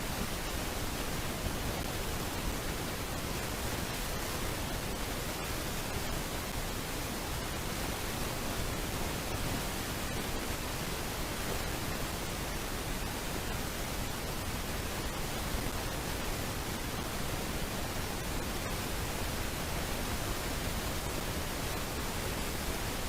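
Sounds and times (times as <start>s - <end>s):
steady microphone hiss: 0.0s - 23.0s.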